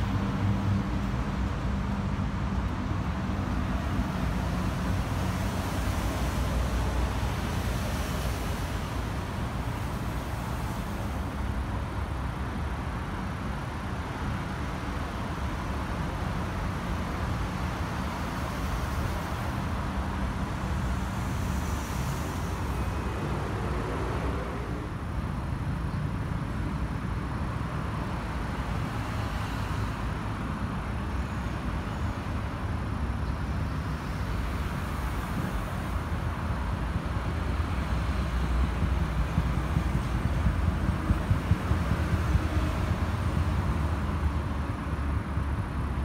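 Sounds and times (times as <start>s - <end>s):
road traffic rumble: 0.0s - 46.0s.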